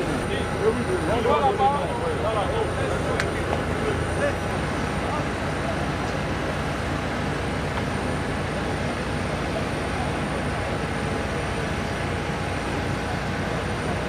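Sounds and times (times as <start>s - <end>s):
machinery droning: 0.0s - 14.0s.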